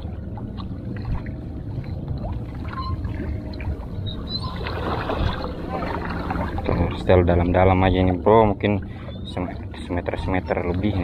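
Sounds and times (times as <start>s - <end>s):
sea water lapping and sloshing: 0.0s - 11.0s
wind rumble on microphone: 0.0s - 11.0s.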